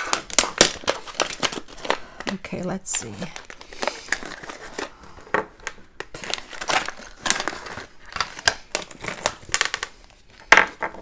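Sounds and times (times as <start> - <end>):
pouch crinkling and rustling: 0.0 - 10.4.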